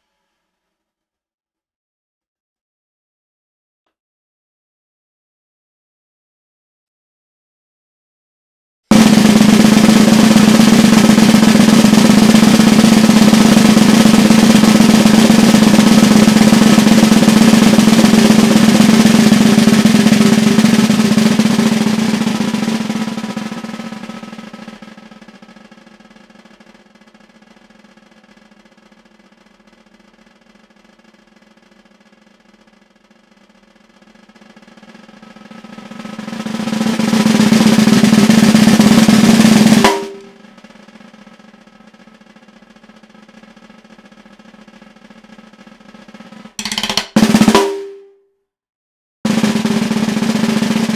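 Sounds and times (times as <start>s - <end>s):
snare drum roll: 8.9s - 48.2s, 49.3s - 50.9s.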